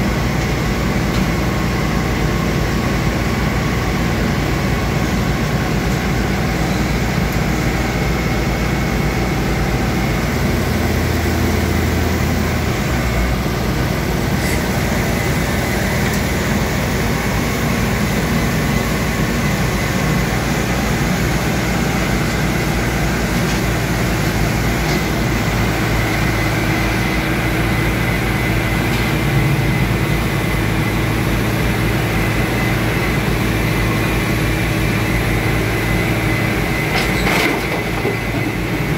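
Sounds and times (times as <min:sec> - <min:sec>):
diesel engines running: 0:00.0 - 0:38.9
hydraulic crane high whine: 0:00.0 - 0:38.9.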